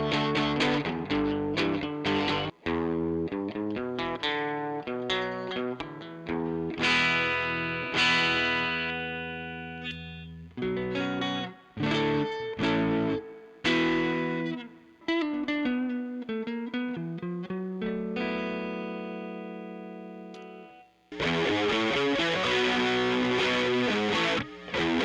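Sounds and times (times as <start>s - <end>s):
electric guitar picked notes and chords: 0.0s - 25.0s.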